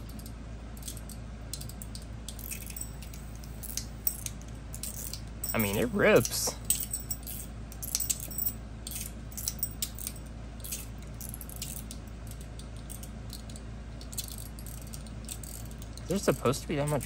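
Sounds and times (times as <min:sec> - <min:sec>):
metal fidget spinner clicking and rattling: 0:00.0 - 0:17.0.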